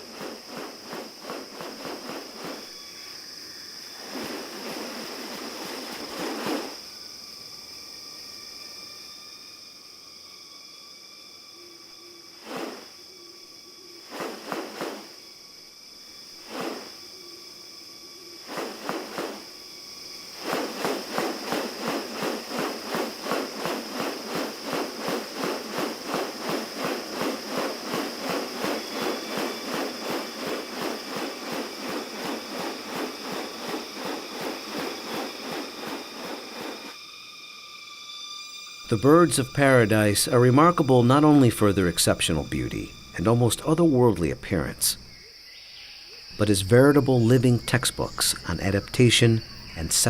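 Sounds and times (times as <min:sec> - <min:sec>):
high-pitched insect drone: 0:00.0 - 0:50.0.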